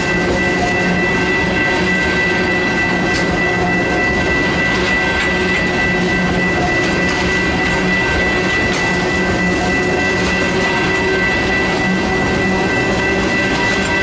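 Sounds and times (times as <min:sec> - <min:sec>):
freight train wheels rumbling: 0:00.0 - 0:14.0
steady high ringing tone: 0:00.0 - 0:14.0.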